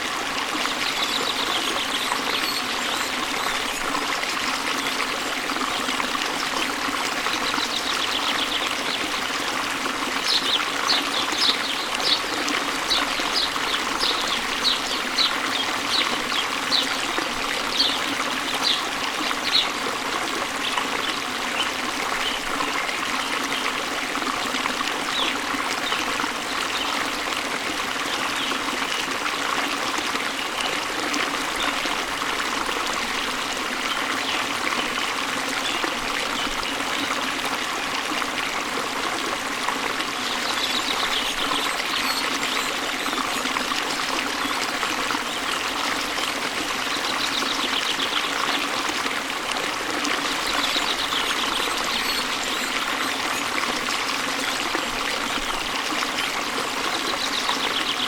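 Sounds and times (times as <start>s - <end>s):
waterfall and stream running: 0.0s - 58.0s.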